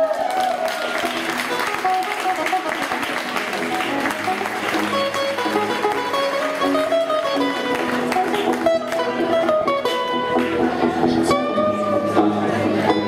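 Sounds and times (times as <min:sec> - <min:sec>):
acoustic guitar plucked and strummed: 0:01.0 - 0:13.0.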